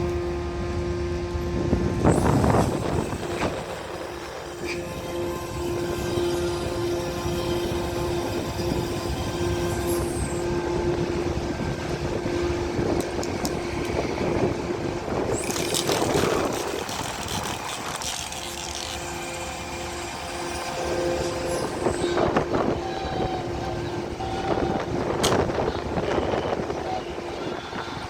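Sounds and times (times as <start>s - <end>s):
ferry engines humming: 0.0s - 28.0s.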